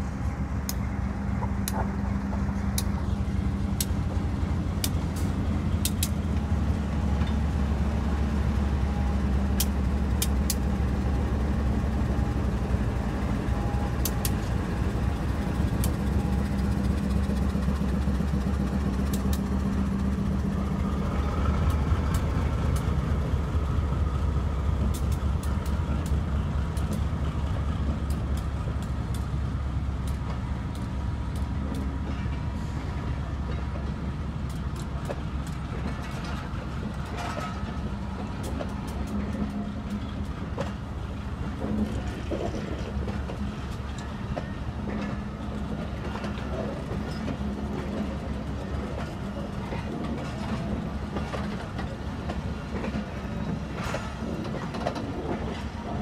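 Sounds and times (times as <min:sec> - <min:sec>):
diesel locomotive engine drone: 0:00.0 - 0:56.0
train wheels clicking over rail joints: 0:00.0 - 0:56.0.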